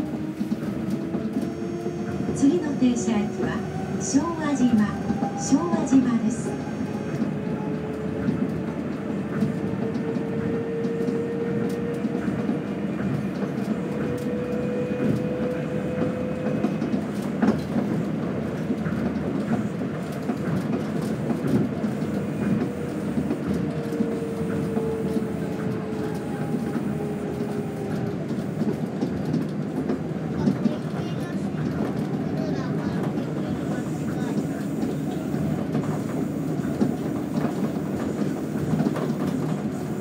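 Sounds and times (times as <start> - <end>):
monorail car rumble: 0.0 - 40.0.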